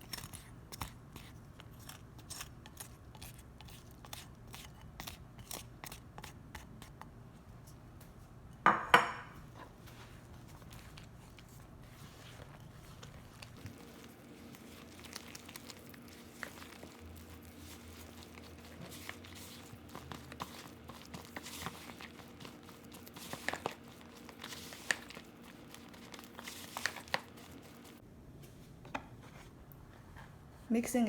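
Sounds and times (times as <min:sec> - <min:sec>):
dough mixing in bowl: 0:00.0 - 0:08.4, 0:09.4 - 0:28.0.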